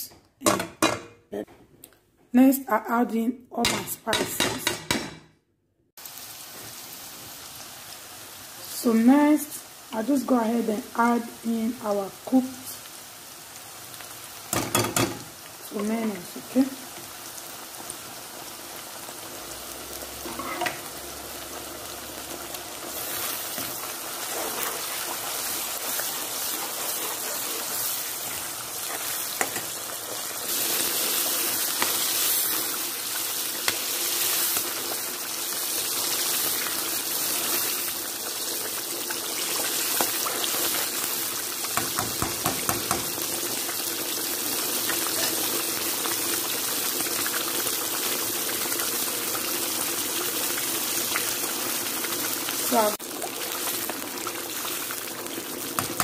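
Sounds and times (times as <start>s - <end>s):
vegetables sizzling in a pan: 6.0s - 56.0s.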